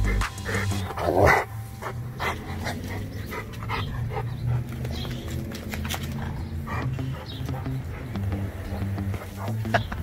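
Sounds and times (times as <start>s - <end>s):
dog panting: 0.0s - 9.7s.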